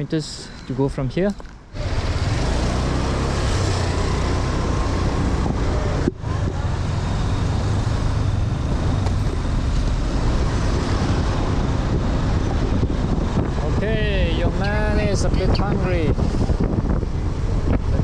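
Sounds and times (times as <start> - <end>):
motorbike road noise rumble: 1.3 - 18.0
wind rushing over microphone: 1.6 - 18.0.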